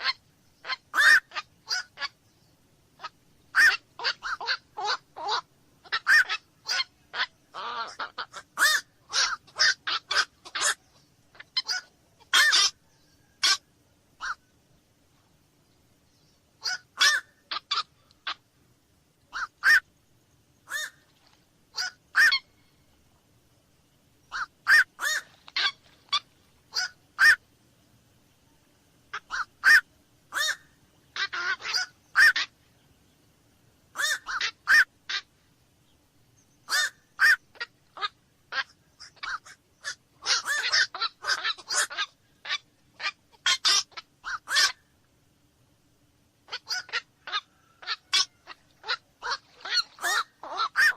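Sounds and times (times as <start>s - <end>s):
night heron croaking: 0.0s - 2.4s, 3.0s - 14.6s, 16.2s - 18.6s, 19.3s - 22.9s, 24.2s - 27.6s, 28.4s - 45.4s, 46.0s - 50.9s.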